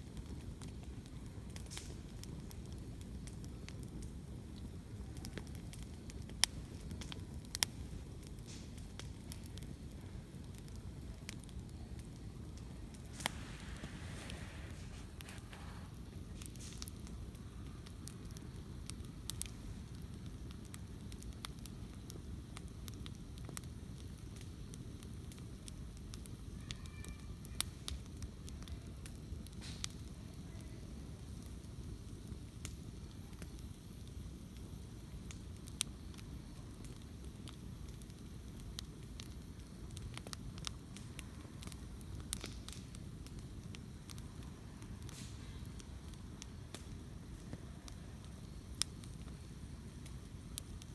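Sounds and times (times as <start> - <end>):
campfire crackling and popping: 0.0 - 50.9
low fire rumble: 0.0 - 50.9.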